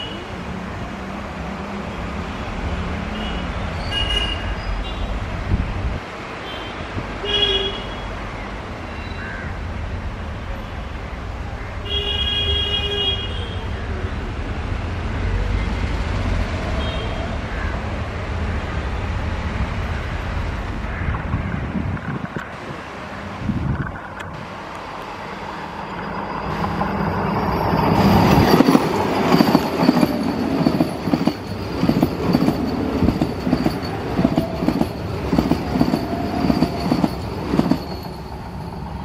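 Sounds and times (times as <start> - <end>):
low rumble of electric train: 0.0 - 39.0.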